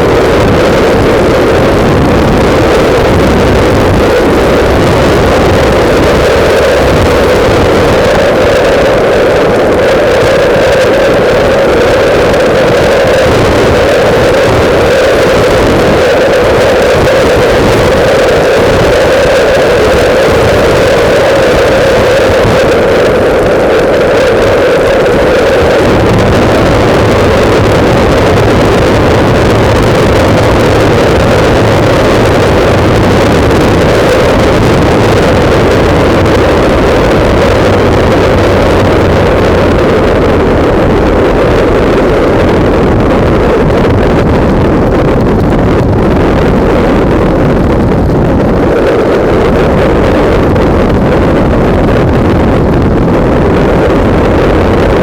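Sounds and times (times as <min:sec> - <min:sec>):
faint motorcycle engine: 0:00.0 - 0:55.0
wind buffeting microphone: 0:00.0 - 0:55.0.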